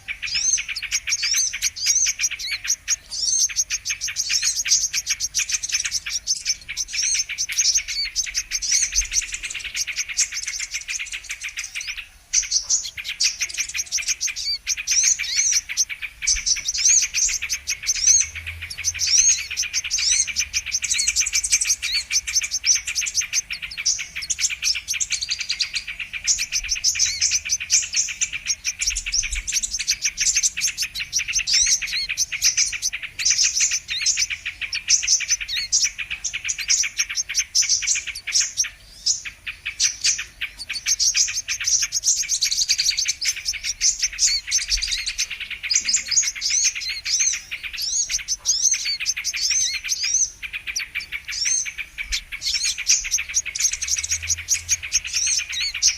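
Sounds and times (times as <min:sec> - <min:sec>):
bird chirps and twitters: 0:00.0 - 0:55.9.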